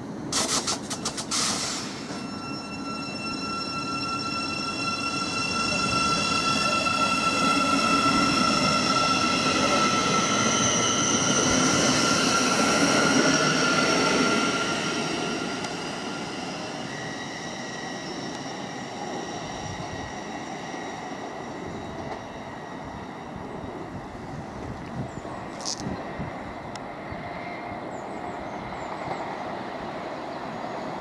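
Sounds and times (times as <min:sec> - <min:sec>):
electric train whine: 0:00.0 - 0:31.0.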